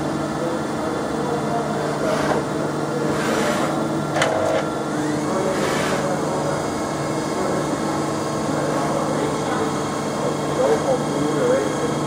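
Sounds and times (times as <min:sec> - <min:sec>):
lathe humming: 0:00.0 - 0:12.0.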